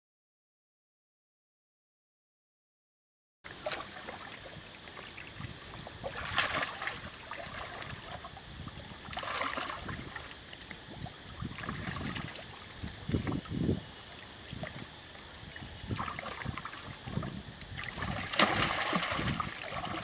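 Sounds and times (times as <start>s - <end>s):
water splashing and sloshing: 3.5s - 20.0s.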